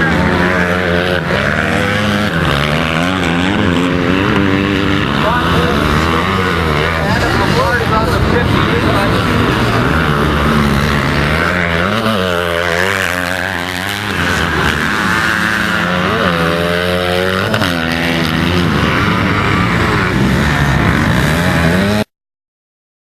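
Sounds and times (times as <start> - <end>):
motocross bike engines revving: 0.0 - 22.1.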